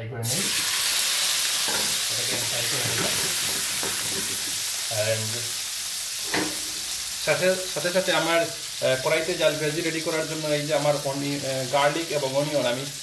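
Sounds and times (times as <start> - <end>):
vegetables sizzling in hot oil: 0.2 - 13.0.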